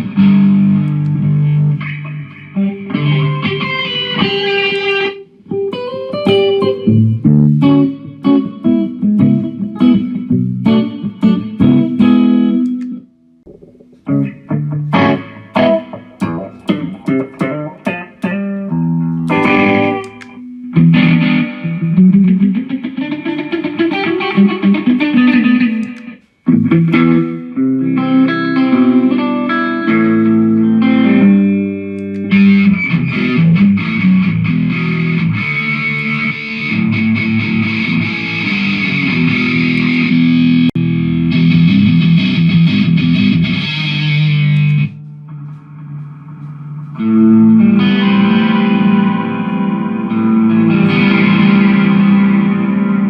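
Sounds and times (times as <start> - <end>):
electric guitar with effects: 0.0 - 53.0.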